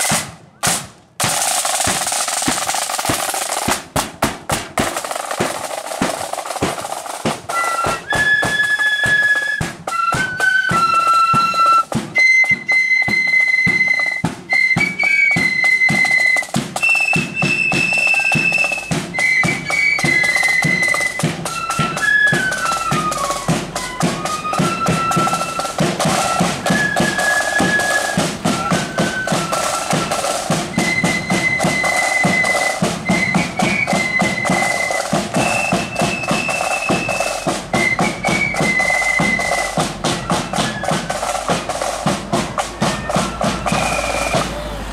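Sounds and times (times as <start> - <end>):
flutes playing melody: 0.0 - 0.8, 5.0 - 44.9
snare drums march beat: 0.0 - 44.8.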